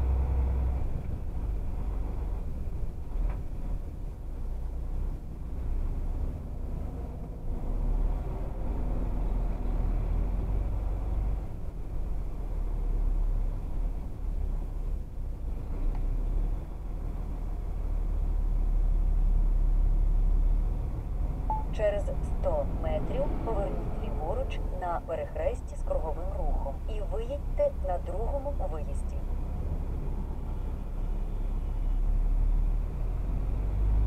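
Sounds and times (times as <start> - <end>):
engine rumble: 0.0 - 34.0
road noise: 0.0 - 34.0.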